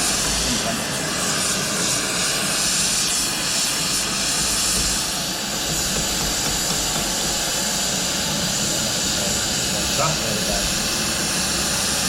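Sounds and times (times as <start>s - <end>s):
loud rushing hiss of equipment: 0.0s - 12.0s.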